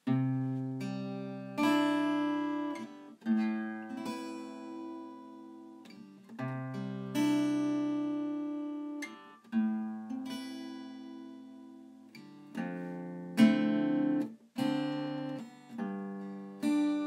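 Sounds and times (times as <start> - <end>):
acoustic guitar chords strummed: 0.0 - 17.0.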